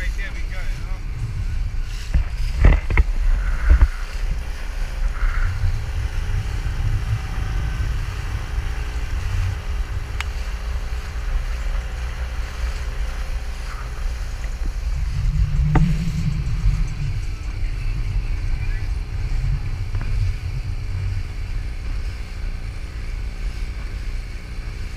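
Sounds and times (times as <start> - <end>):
outboard motor running: 0.0 - 24.9
water rushing past hull: 0.0 - 24.9
wind buffeting microphone: 0.0 - 24.9.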